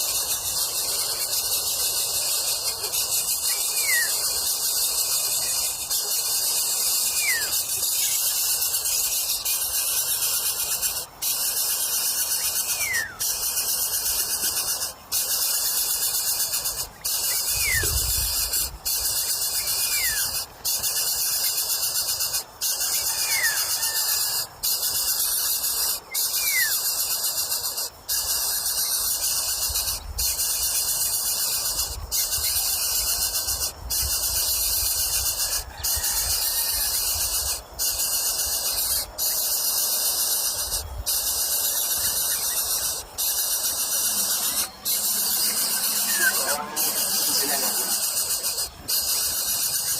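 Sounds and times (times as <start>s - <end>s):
high-pitched insect buzzing: 0.0s - 49.9s.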